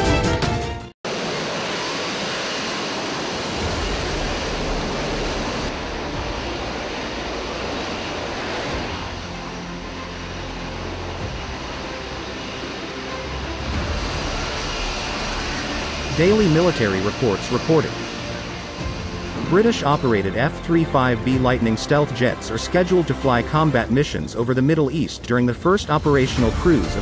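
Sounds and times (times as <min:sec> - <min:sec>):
jet engine rushing roar: 0:01.0 - 0:27.0
downwash blasting water: 0:01.1 - 0:27.0.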